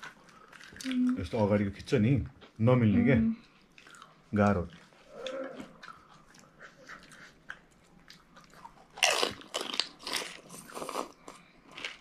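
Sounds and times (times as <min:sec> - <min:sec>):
chewing: 0:00.0 - 0:01.4, 0:03.4 - 0:12.0.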